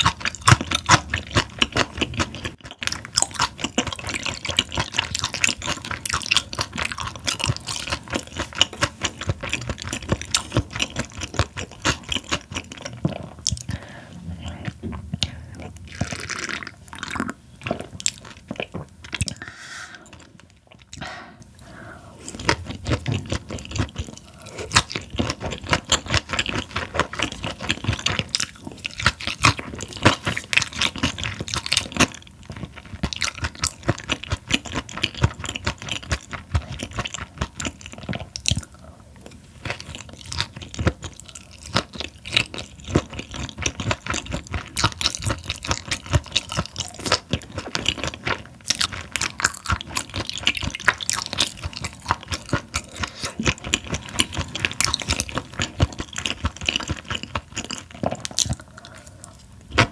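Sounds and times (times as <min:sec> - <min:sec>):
chewing raw fish: 0:00.0 - 0:59.9.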